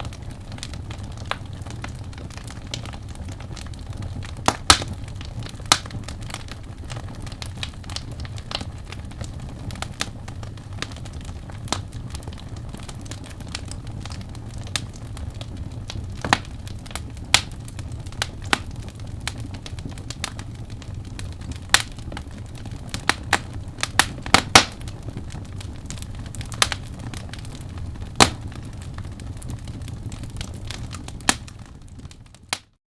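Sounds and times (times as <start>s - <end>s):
wood fire crackling: 0.0s - 32.8s.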